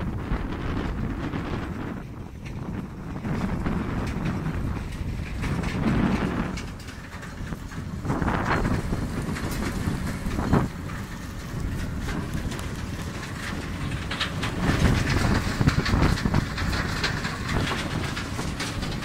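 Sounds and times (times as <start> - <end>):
low mechanical rumble: 0.0 - 19.0
machinery rattling and clatter: 0.0 - 19.0.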